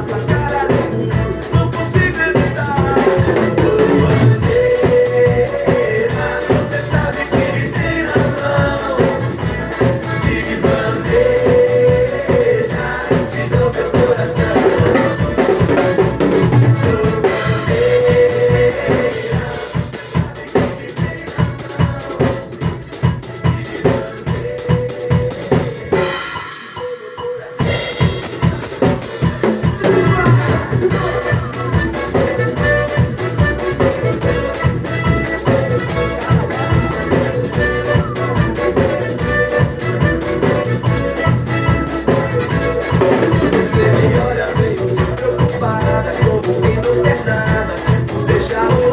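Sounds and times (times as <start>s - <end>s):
drum kit playing: 0.0s - 48.9s.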